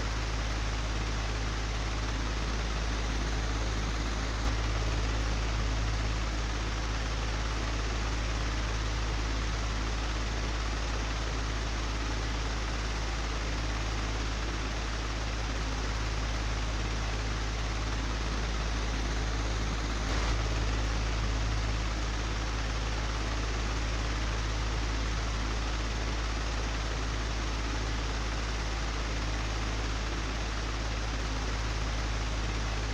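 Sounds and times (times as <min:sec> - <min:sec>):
electric fan running: 0:00.0 - 0:32.9.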